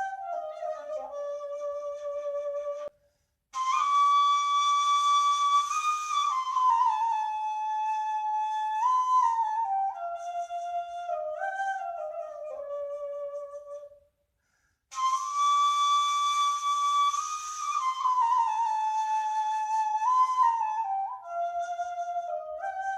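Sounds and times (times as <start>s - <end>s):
flute melody: 0.0s - 3.0s, 3.6s - 14.0s, 14.9s - 22.9s.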